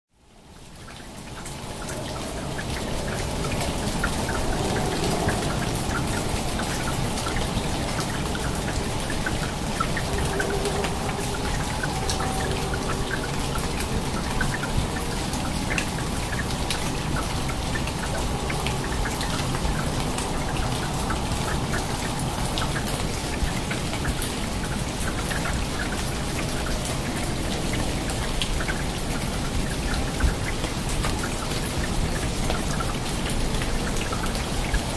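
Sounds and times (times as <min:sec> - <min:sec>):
falling water rushing: 0:00.3 - 0:34.9
water drops ticking: 0:00.6 - 0:34.9.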